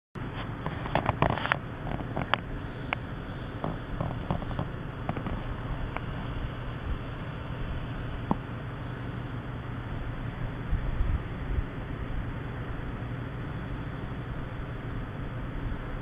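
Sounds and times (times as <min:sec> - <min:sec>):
steady background noise: 0:00.2 - 0:16.0.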